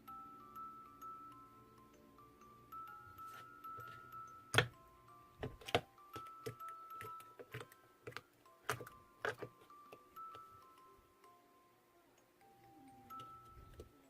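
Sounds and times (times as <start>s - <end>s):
bell-like background music: 0.0s - 11.8s, 12.4s - 14.0s.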